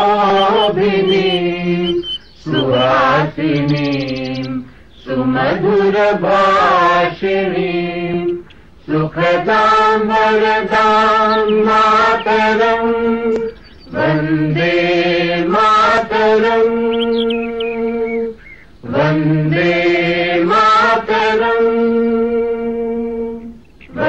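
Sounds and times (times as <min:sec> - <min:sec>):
chant-like singing: 0:00.0 - 0:24.0.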